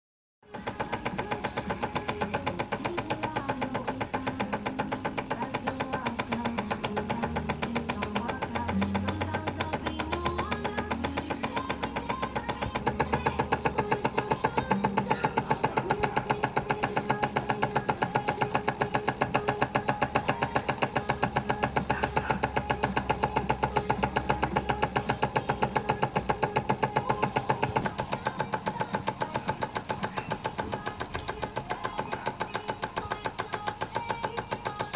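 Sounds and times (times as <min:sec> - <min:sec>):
model steam engine running: 0:00.5 - 0:34.9.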